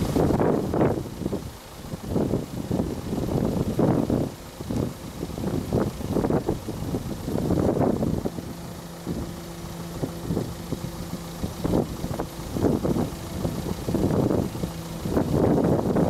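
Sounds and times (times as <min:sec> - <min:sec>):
car engine idling: 0:00.0 - 0:16.0
wind buffeting microphone: 0:00.0 - 0:16.0.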